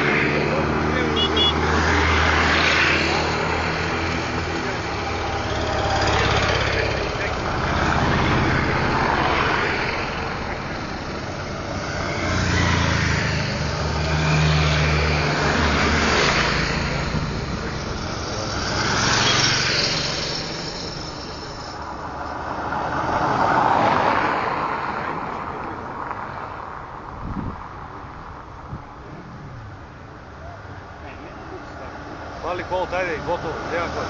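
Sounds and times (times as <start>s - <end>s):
motorcycles passing by: 0.0s - 27.5s, 28.2s - 34.0s.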